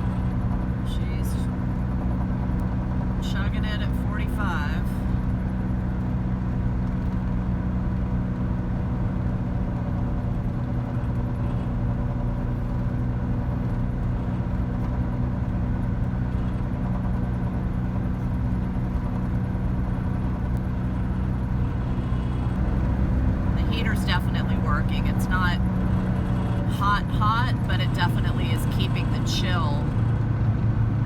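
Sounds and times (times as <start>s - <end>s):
engine running while driving: 0.0s - 31.0s
road noise: 0.0s - 31.0s.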